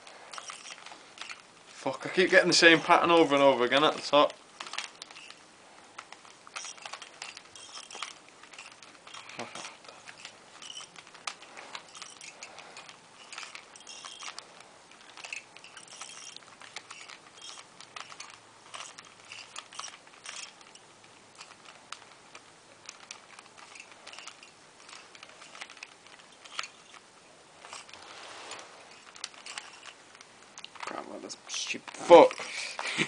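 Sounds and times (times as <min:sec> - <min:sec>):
puzzle cube clicking as turned: 0:00.1 - 0:01.5, 0:02.4 - 0:32.8.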